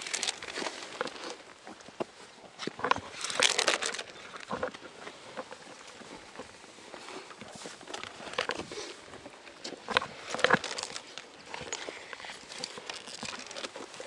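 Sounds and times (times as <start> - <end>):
scraping and rustling: 0.0 - 14.0.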